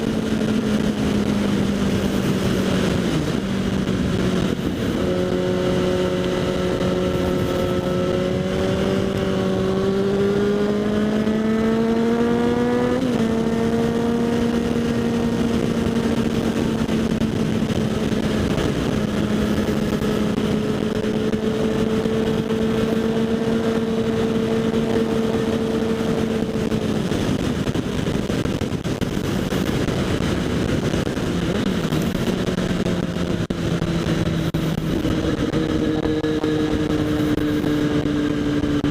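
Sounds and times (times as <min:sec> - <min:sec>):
motorcycle engine revving: 0:00.0 - 0:38.9
wind rush over microphone: 0:00.0 - 0:38.9.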